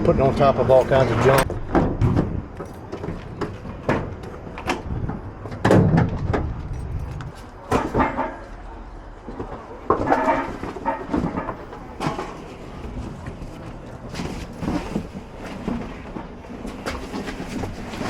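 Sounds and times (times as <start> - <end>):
knocks and clunks: 0.8 - 8.6, 9.2 - 18.0.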